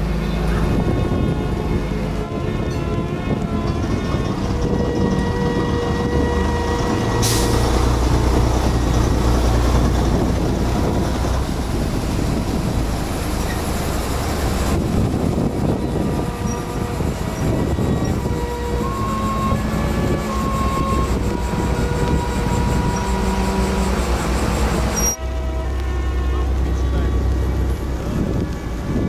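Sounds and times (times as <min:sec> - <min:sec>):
tram rolling on rails: 0:00.0 - 0:29.0
truck diesel engine: 0:00.0 - 0:29.0.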